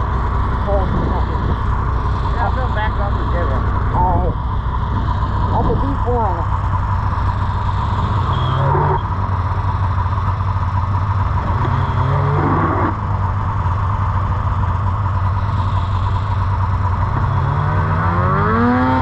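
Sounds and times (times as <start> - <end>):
snowmobile engine revving: 0.0 - 9.5, 11.2 - 13.5, 15.2 - 19.0.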